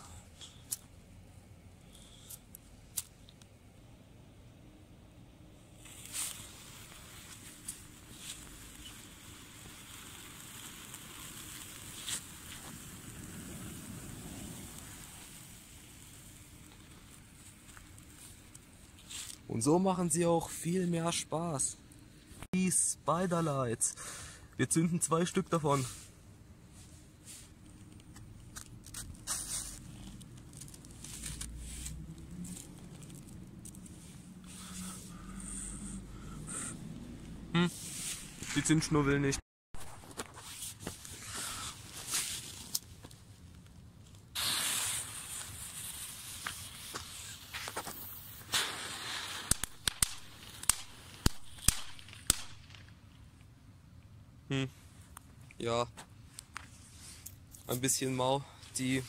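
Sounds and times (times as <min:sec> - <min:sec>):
firework fuse crackling and hissing: 0:00.0 - 0:01.0, 0:01.8 - 0:03.4, 0:05.6 - 0:36.9, 0:37.7 - 0:38.9, 0:39.8 - 0:53.4, 0:56.3 - 0:59.0.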